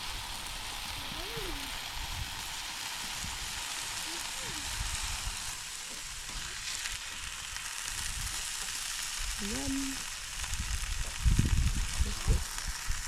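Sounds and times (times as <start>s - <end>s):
campfire burning: 0.0s - 13.0s.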